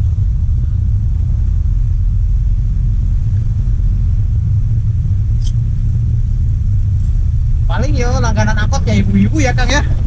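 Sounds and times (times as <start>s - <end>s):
minibus engine and road noise: 0.0s - 10.0s.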